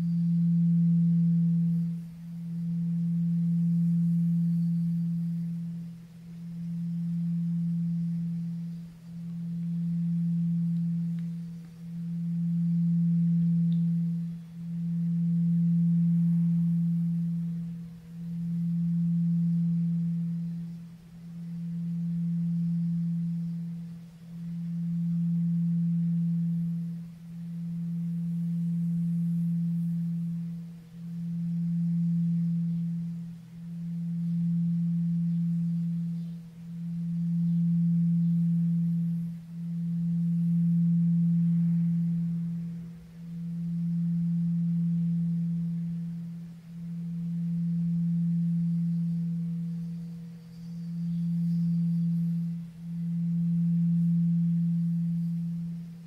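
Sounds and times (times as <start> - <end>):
singing bowl low note: 0.0 - 56.0.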